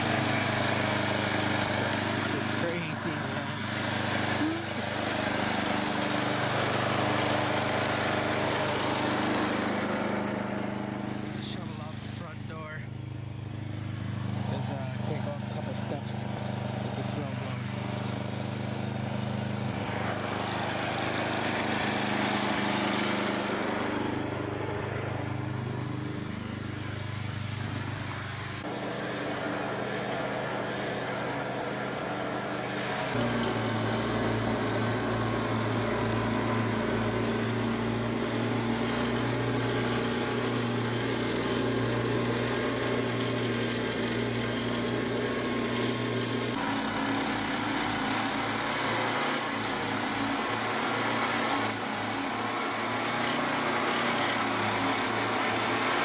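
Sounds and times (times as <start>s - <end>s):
snowblower engine running: 0.0s - 56.0s.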